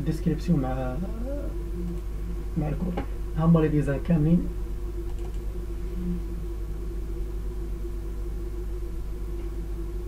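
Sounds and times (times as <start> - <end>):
constant tone: 0.0 - 10.0
low hum: 0.0 - 10.0.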